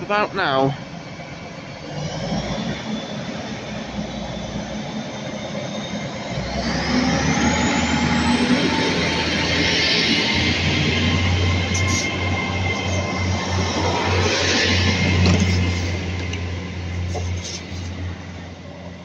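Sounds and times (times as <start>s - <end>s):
rising train whine: 0.0s - 19.0s
train running noise: 0.0s - 19.0s.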